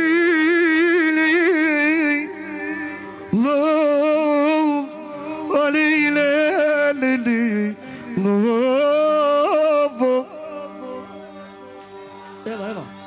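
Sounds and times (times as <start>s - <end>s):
man singing with vibrato: 0.0s - 11.6s.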